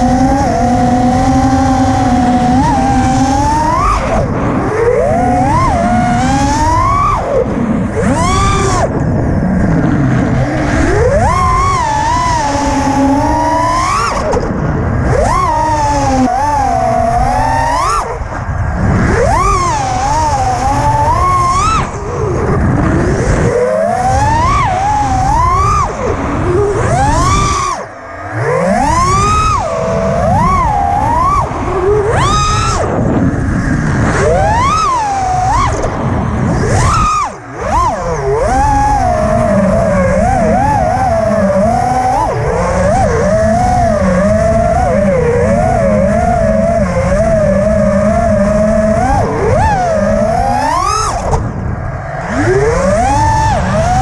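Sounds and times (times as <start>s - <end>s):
drone motors whining: 0.0s - 54.0s
wind-like rush: 0.0s - 54.0s.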